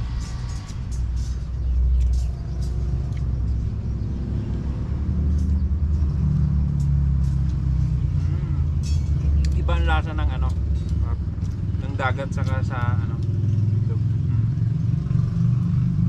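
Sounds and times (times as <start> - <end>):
low rumble: 0.0 - 13.7.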